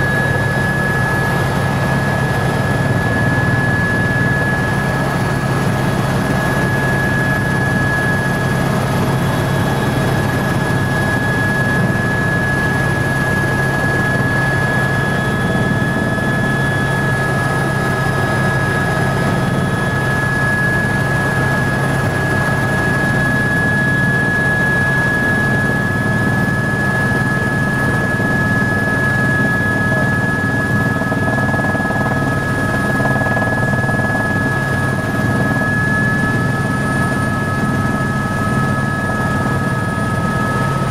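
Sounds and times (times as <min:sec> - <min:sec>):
helicopter whine and drone: 0:00.0 - 0:40.9.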